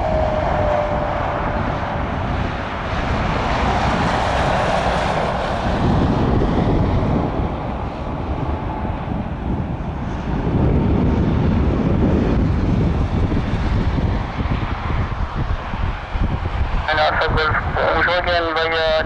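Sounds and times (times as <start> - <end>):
deep rumble: 0.0 - 19.0
jet engines rushing: 0.0 - 19.0.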